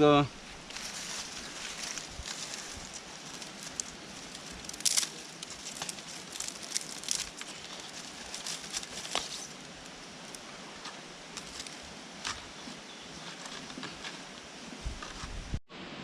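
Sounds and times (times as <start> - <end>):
steady hiss: 0.0 - 16.0
crackling of kindling fire: 0.3 - 15.6.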